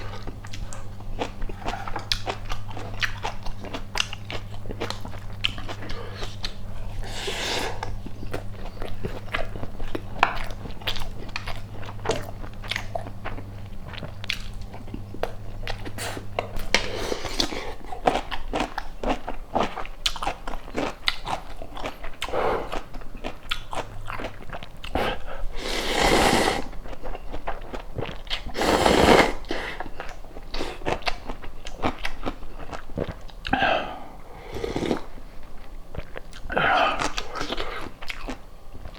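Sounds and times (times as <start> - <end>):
chewing and crunching food: 0.0 - 38.9
low steady hum: 0.0 - 38.9.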